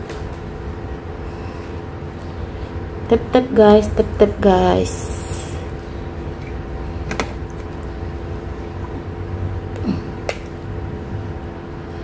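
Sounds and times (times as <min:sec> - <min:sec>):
steady tonal hum: 0:00.0 - 0:12.0.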